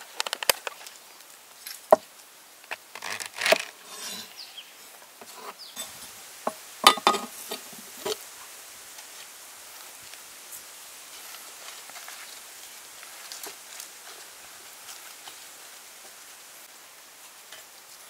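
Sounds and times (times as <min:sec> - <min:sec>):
rustling: 0:00.0 - 0:16.2.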